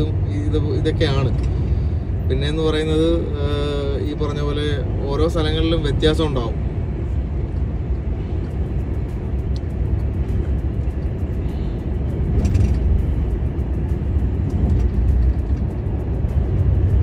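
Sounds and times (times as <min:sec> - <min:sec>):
heavy truck engine and road rumble: 0:00.0 - 0:17.0.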